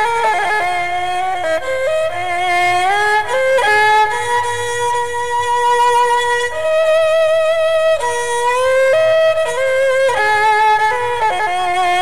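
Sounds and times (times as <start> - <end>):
bowed spike fiddle melody: 0.0 - 12.0.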